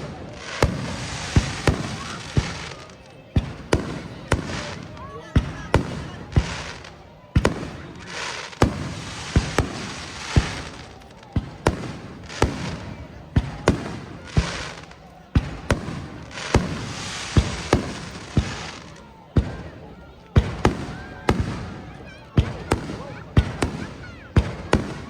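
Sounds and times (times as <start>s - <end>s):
fireworks bursting with sharp bangs: 0.0s - 25.0s.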